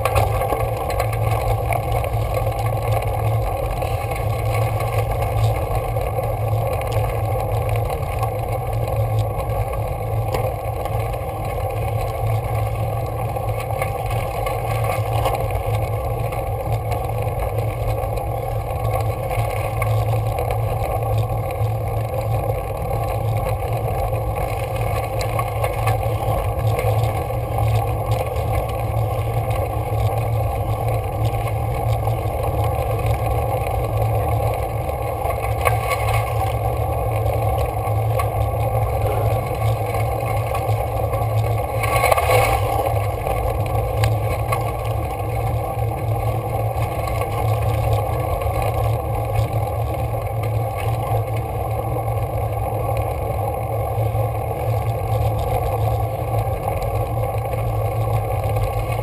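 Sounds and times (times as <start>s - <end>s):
road noise: 0.0s - 59.0s
rumbling wind: 0.0s - 59.0s.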